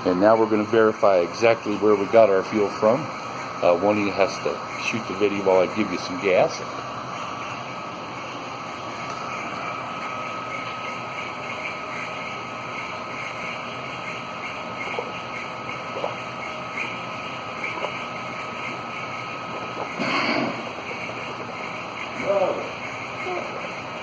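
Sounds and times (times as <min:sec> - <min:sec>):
machine running with thin whine: 0:00.0 - 0:24.0.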